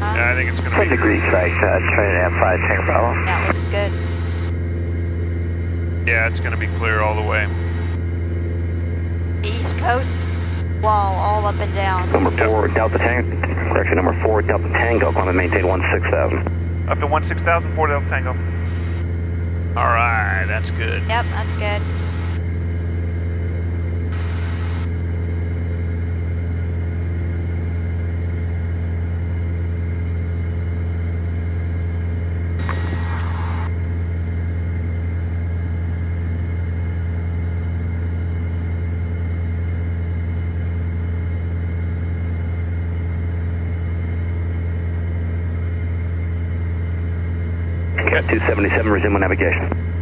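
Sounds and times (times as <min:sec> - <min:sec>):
propeller aircraft engine drone: 0:00.0 - 0:50.0.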